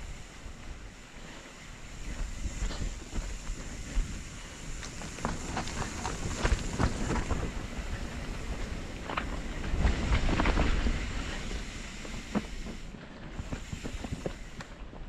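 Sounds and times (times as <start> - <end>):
bike tyre rumble on dirt: 0.0 - 15.0
wind on microphone: 1.8 - 14.6
bike rattling clicks and knocks: 2.0 - 15.0.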